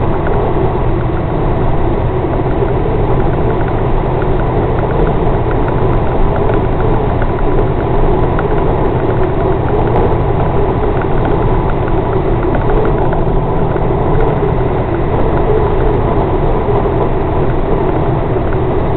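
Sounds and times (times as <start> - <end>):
truck diesel engine droning: 0.0 - 18.9.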